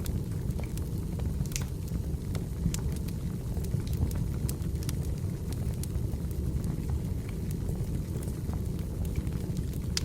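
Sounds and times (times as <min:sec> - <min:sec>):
firewood crackling: 0:00.0 - 0:05.9, 0:06.7 - 0:10.0.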